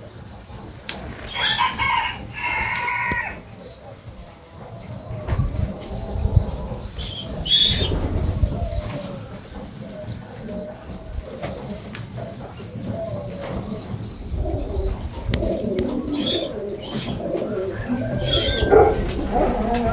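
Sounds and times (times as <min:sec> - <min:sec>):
pigeons cooing: 0:00.0 - 0:19.9.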